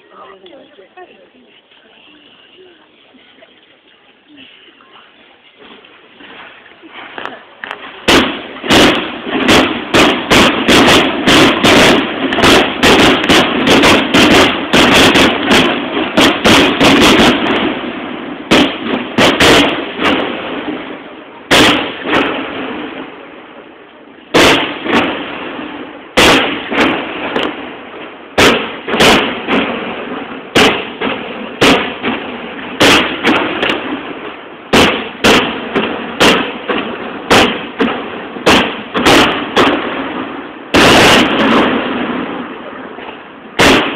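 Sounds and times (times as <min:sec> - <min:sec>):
fireworks bangs echoing: 0:04.4 - 0:43.9.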